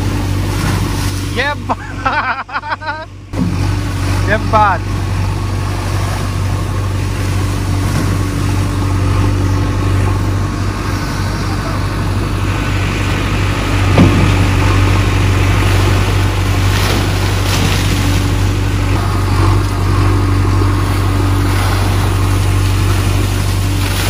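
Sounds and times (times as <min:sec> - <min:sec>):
diesel engine running: 0:00.0 - 0:24.0
water splashing: 0:00.0 - 0:24.0.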